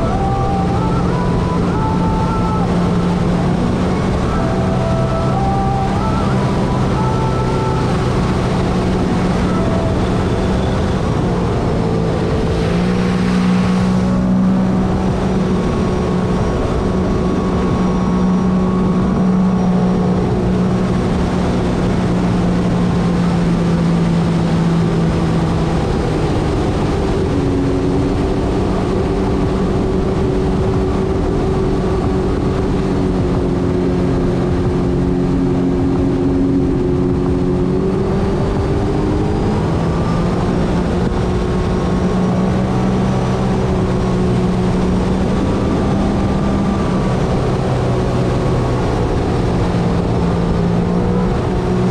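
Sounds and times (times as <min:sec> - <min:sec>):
watercraft engine running: 0:00.0 - 0:51.9
wind and water rushing: 0:00.0 - 0:51.9.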